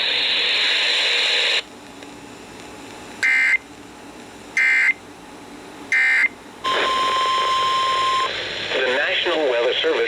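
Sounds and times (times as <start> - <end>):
steady radio hiss: 0.0 - 10.0.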